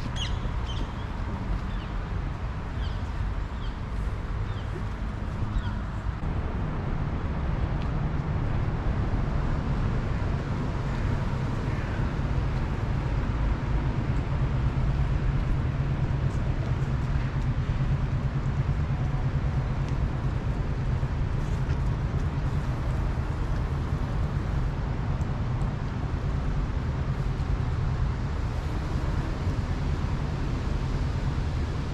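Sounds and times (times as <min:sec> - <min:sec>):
low outdoor background rumble: 0:00.0 - 0:31.9.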